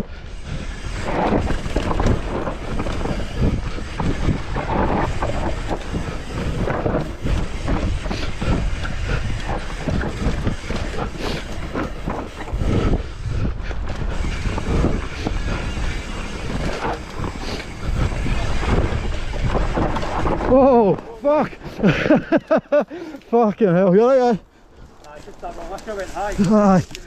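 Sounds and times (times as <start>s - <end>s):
bike rattling and clattering: 0.0s - 22.7s, 24.8s - 27.0s
bike tyres rolling on dirt: 0.0s - 27.0s.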